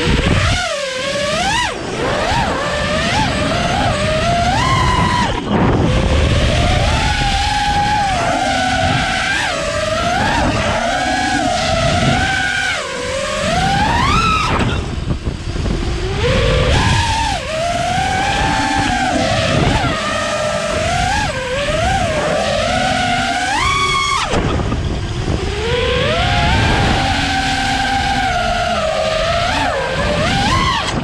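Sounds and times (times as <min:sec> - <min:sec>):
drone motors whining: 0:00.0 - 0:31.0
low wind rumble: 0:00.0 - 0:31.0.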